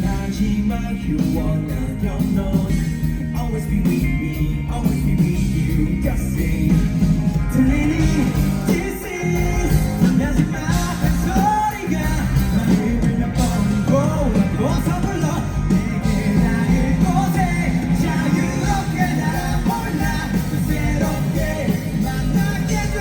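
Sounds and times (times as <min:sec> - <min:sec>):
live pop-rock band: 0:00.0 - 0:23.0
person singing: 0:00.0 - 0:23.0.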